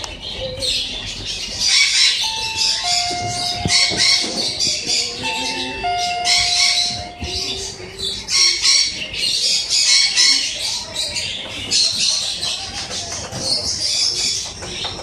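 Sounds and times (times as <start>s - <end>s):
birds squawking and chattering: 0.0s - 15.0s.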